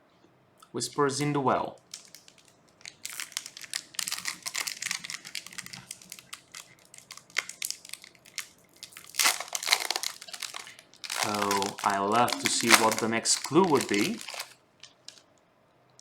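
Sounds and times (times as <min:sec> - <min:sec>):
foil wrapper crinkling and tearing: 0:01.8 - 0:15.2.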